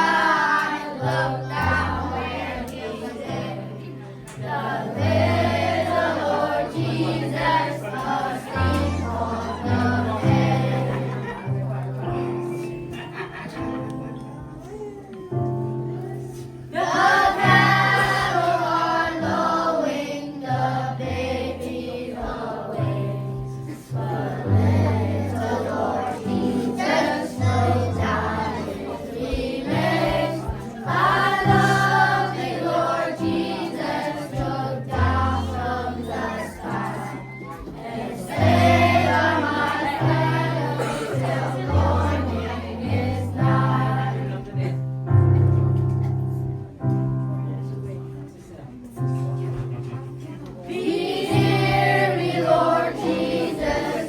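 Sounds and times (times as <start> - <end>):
choir singing: 0.0 - 14.2, 15.7 - 44.8, 50.6 - 54.0
instrumental accompaniment: 0.0 - 54.0.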